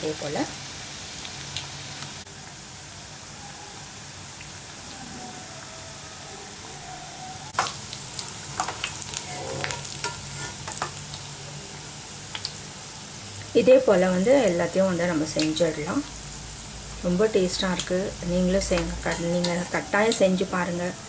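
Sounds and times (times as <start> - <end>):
fritters sizzling in hot oil: 0.0 - 5.6, 7.5 - 21.0.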